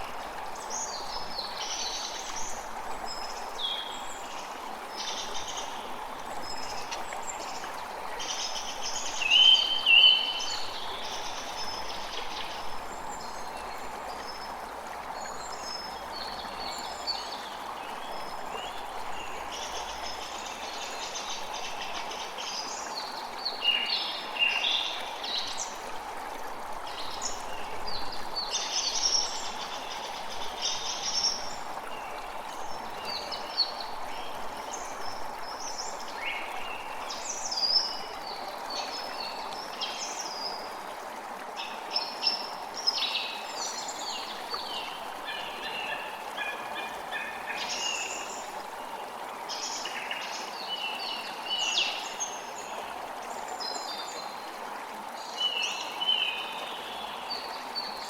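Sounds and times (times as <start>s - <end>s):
creek rushing: 0.0s - 58.0s.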